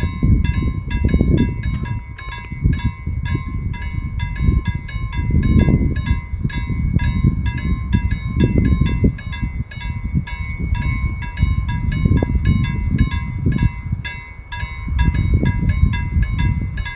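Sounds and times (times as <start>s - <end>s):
music with ticking beat and bells: 0.0s - 16.9s.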